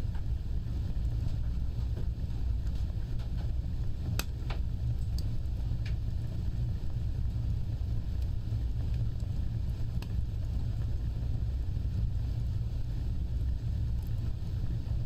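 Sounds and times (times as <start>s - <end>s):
fire crackling pops: 0.0s - 15.0s
flames rumbling: 0.0s - 15.0s.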